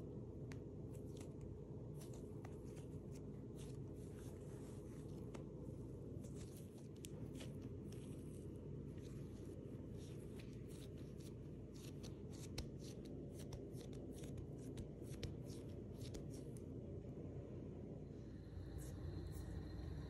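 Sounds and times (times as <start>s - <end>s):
low steady hum: 0.0s - 20.0s
hands pressing dough: 0.4s - 16.6s
soft rustles: 0.4s - 17.0s.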